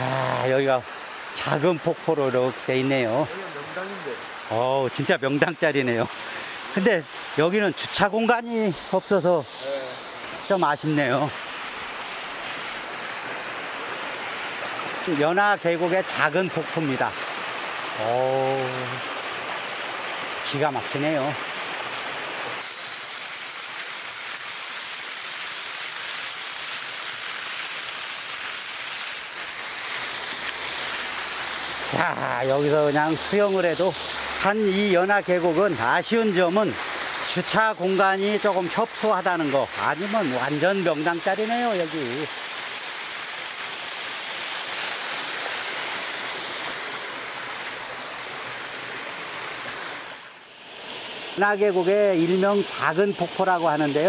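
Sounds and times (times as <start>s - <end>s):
small waterfall splashing on stone: 0.0s - 54.0s.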